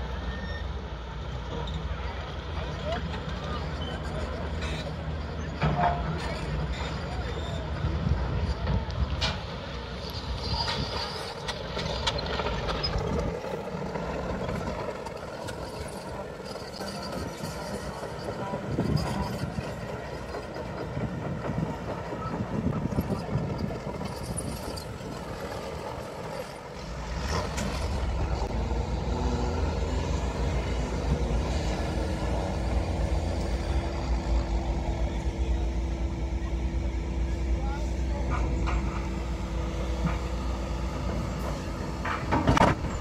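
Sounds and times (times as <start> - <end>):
truck engine working hard: 0.0 - 43.0.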